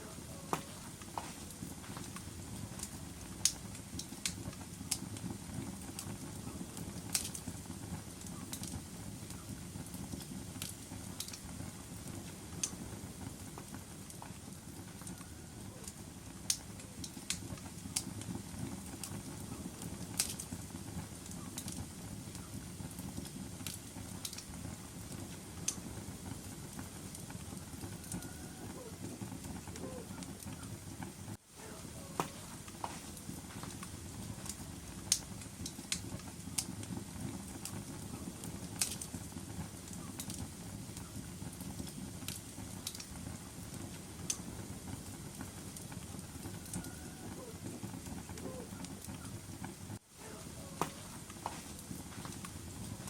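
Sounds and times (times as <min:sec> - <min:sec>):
fire crackling and popping: 0:00.0 - 0:53.0
fire flames rushing: 0:00.0 - 0:53.0.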